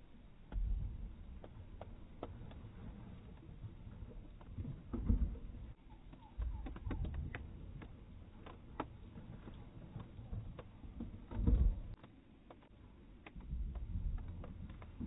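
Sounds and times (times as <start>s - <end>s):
wind rumbling on microphone: 0.0s - 12.0s, 13.4s - 15.0s
light taps and ticks: 0.4s - 15.0s.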